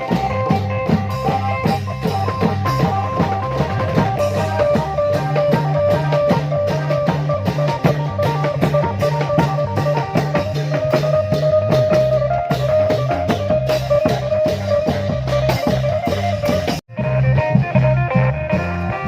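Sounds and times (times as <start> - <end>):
bass line: 0.0 - 19.0
fast drum beat: 0.0 - 19.0.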